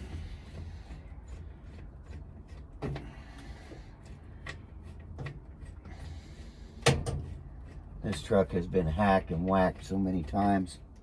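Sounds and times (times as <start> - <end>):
hand tools and metal parts handled: 0.0 - 11.0.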